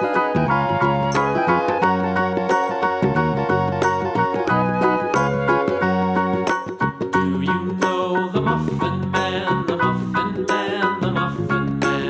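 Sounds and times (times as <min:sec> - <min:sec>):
music with repeated notes and beat: 0:00.0 - 0:12.0.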